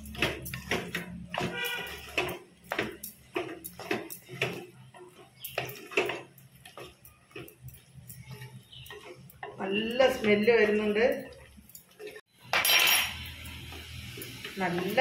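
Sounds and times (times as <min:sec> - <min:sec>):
spatula scraping earthenware pot: 0:00.0 - 0:12.3.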